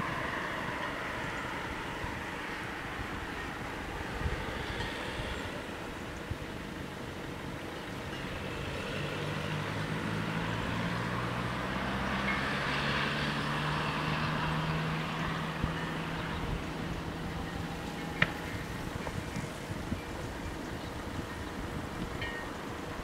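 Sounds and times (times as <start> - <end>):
passing vehicle engine hum: 0.0 - 23.0.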